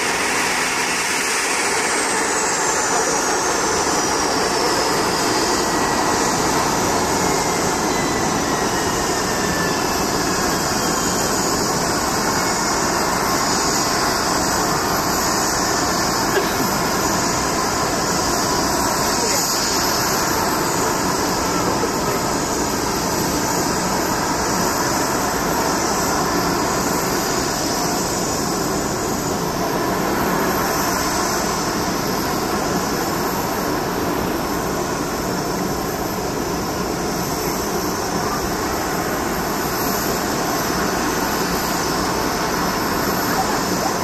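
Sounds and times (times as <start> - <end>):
jet aircraft roar: 0.0 - 44.0.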